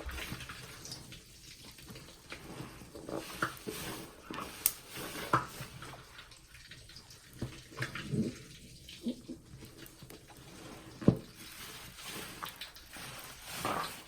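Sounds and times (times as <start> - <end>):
wet sponge squishing: 0.0 - 14.0.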